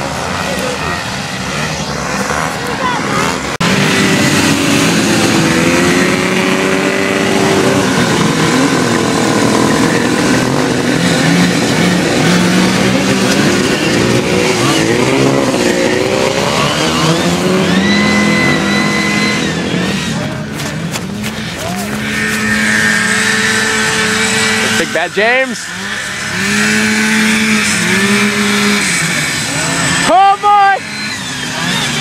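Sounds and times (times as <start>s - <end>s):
snowmobile engines revving: 0.0s - 32.0s.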